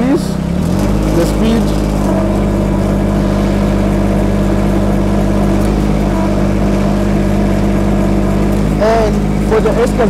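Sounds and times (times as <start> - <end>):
diesel excavator engine running: 0.0 - 10.0.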